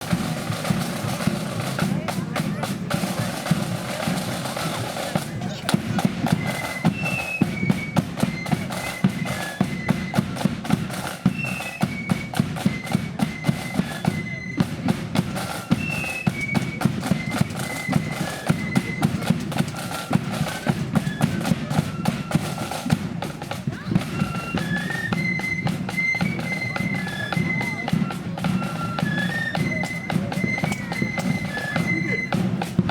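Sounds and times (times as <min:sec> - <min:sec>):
flutes playing march tune: 0:00.0 - 0:32.9
snare and bass drums marching: 0:00.0 - 0:32.9.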